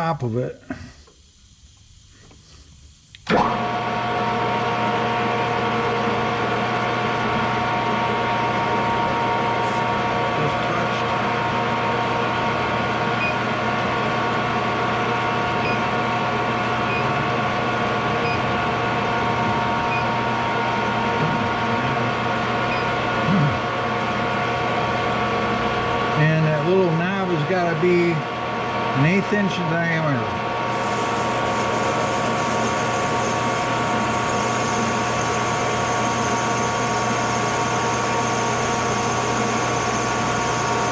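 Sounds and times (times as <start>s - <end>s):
metal lathe motor whining: 3.2s - 40.9s.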